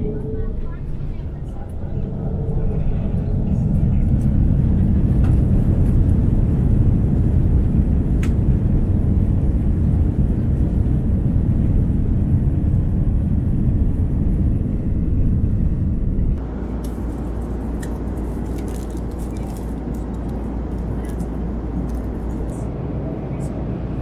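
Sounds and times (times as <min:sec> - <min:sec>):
aircraft cabin rumble in flight: 0:00.0 - 0:24.0.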